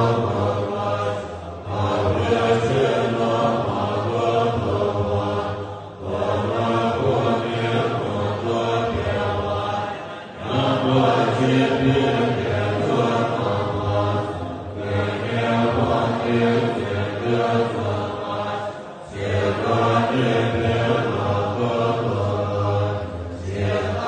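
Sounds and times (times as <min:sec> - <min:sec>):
monks chanting in unison: 0:00.0 - 0:24.0.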